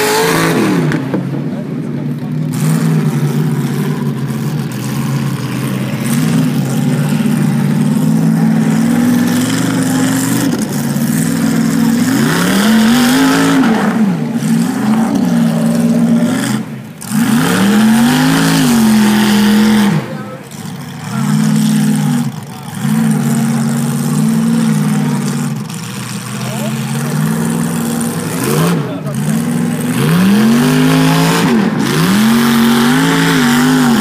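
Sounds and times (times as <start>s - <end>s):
buggy engine revving: 0.0s - 34.0s.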